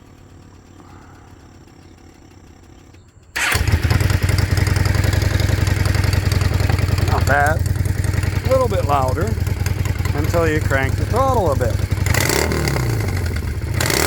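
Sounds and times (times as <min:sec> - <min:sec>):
motorcycle engine starting and idling: 0:00.0 - 0:14.0.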